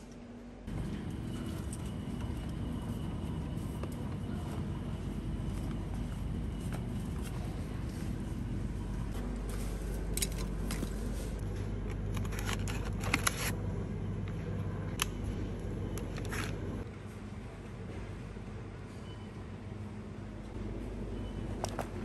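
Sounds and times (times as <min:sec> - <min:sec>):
refrigerator hum: 0:00.0 - 0:22.0.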